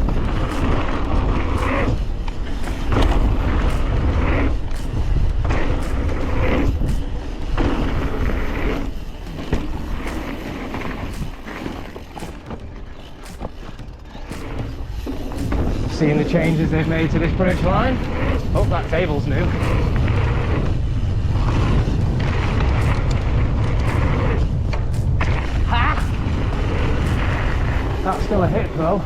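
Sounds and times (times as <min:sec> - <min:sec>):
wind rushing over microphone: 0:00.0 - 0:12.7, 0:14.3 - 0:29.0
bike knocks and rattles: 0:00.0 - 0:29.0
bike tyres rolling on dirt: 0:00.0 - 0:29.0.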